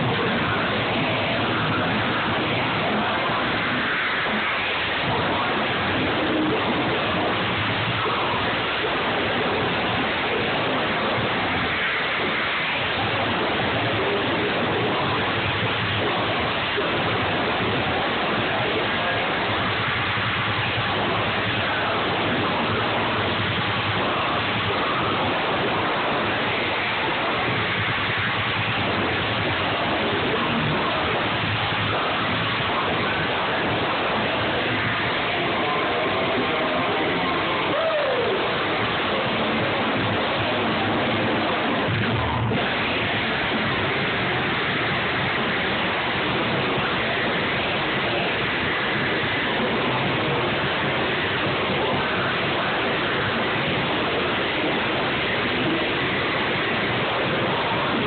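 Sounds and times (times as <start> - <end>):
loud distorted live music: 0.0 - 58.0.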